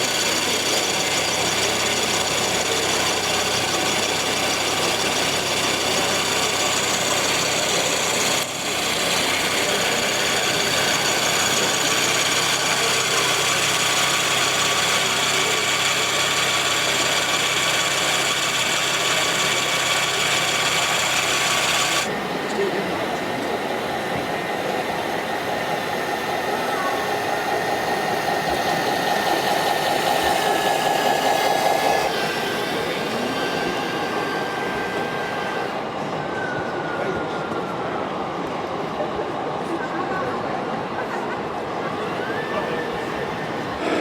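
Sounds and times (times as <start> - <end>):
model trucks engine drone: 0.0 - 44.0.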